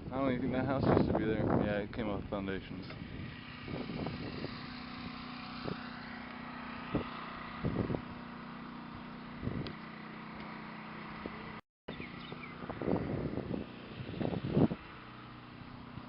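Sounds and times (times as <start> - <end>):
motor humming: 2.8 - 16.0.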